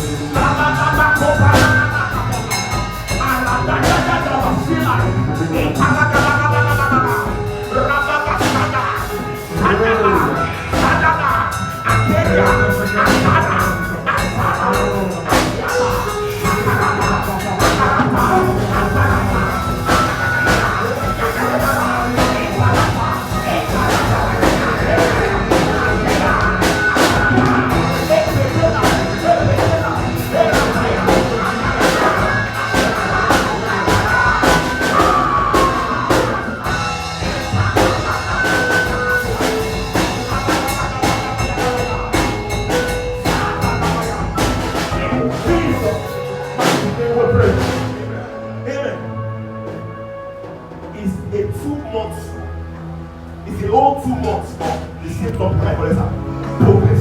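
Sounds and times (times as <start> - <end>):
church band music: 0.0 - 57.0
many voices praying aloud: 0.0 - 57.0.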